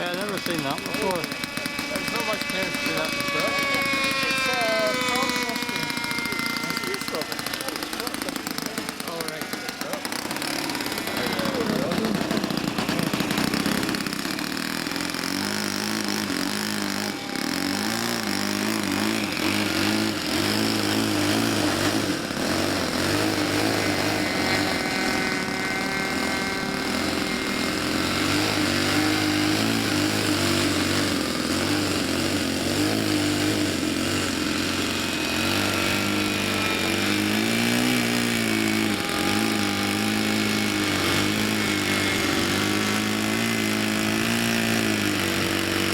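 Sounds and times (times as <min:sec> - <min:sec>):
model airplane engine drone: 0:00.0 - 0:45.9.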